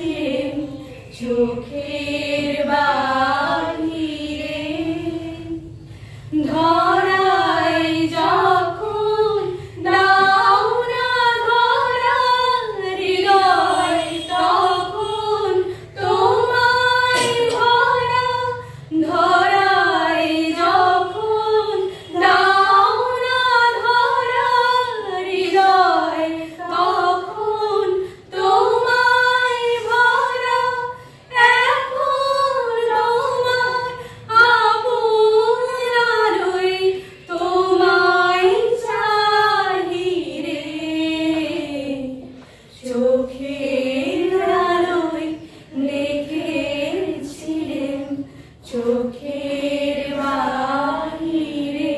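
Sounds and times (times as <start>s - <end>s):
women singing together: 0.0s - 51.9s.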